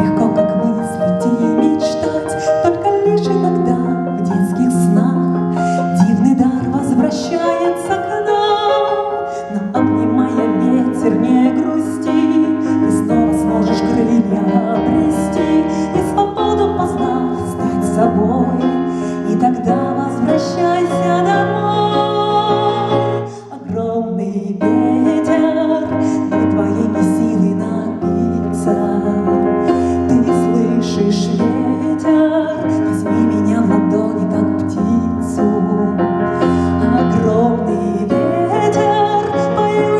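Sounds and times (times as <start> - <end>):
instrumental music with piano: 0.0 - 39.9.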